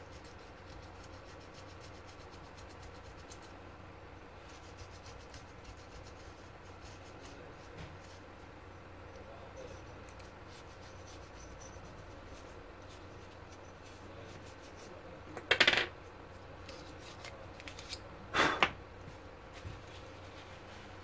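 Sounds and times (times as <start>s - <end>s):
toothbrush brushing plastic fan: 0.0s - 15.2s, 16.3s - 18.1s, 19.6s - 21.0s.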